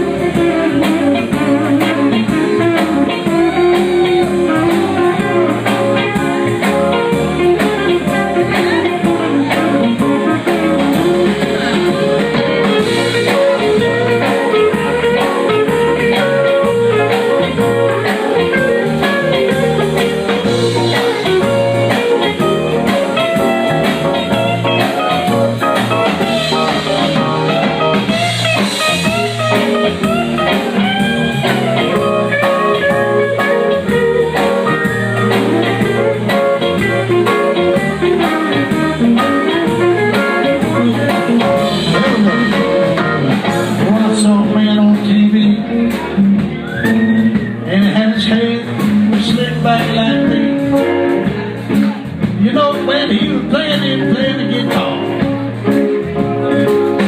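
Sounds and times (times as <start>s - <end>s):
blues band playing: 0.0s - 57.0s
lead guitar bending notes: 0.0s - 57.0s.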